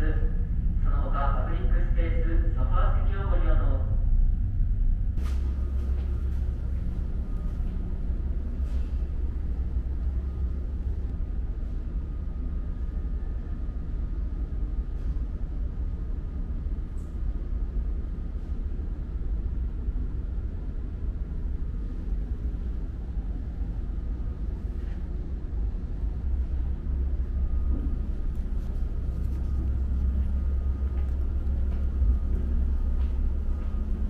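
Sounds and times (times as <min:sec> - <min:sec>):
faint high whine: 0:00.0 - 0:34.0
ship engine rumble: 0:00.0 - 0:34.0.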